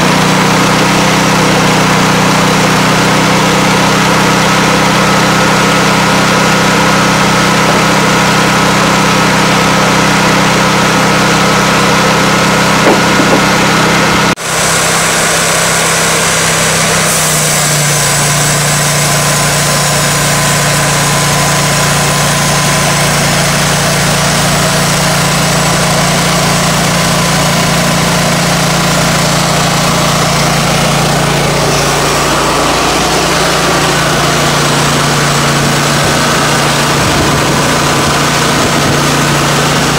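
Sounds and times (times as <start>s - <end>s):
band saw blade cutting log: 0.0s - 39.9s
sawmill engine running: 0.0s - 39.9s.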